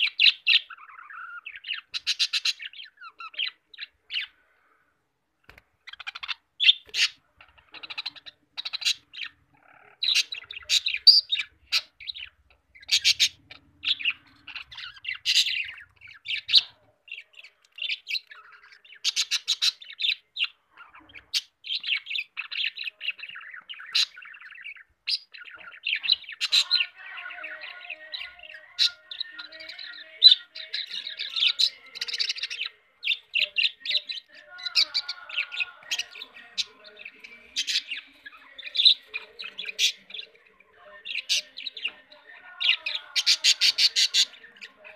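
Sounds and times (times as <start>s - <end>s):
budgerigars chirping: 0.0s - 4.4s, 5.5s - 44.9s
budgerigars warbling chatter: 0.0s - 4.4s, 5.5s - 44.9s.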